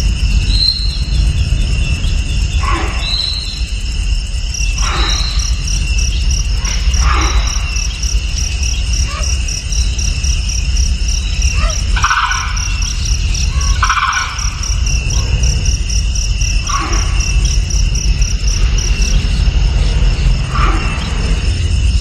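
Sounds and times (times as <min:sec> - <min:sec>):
insects trilling: 0:00.0 - 0:22.0
low rumble: 0:00.0 - 0:22.0.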